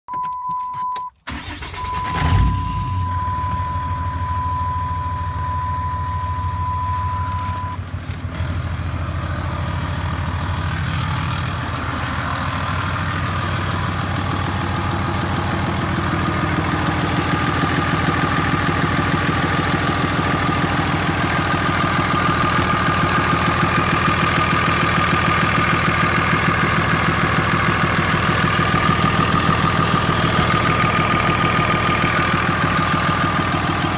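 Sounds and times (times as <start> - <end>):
diesel engine idling with clatter: 1.3 - 33.9.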